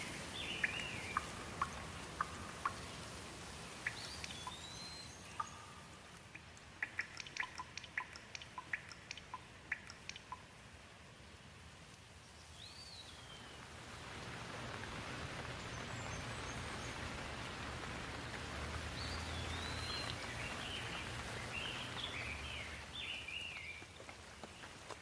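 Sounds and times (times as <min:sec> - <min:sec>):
birds chirping: 0:00.0 - 0:10.4, 0:14.7 - 0:24.8
rain falling: 0:00.0 - 0:25.0.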